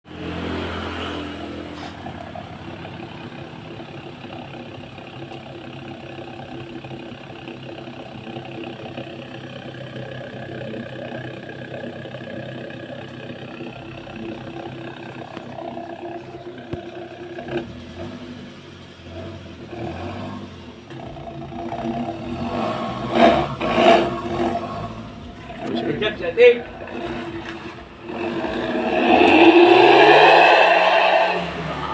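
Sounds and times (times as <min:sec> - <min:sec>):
engine idling with deep exhaust: 0:01.5 - 0:29.2.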